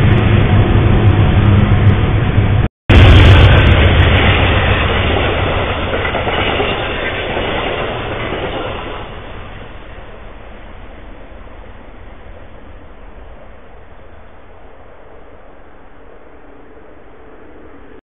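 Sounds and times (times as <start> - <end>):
train cars rolling past: 0.0 - 18.0.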